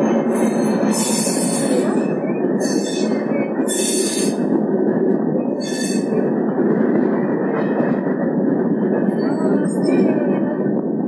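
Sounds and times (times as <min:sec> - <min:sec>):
train coaches rumbling on rails: 0:00.0 - 0:11.0.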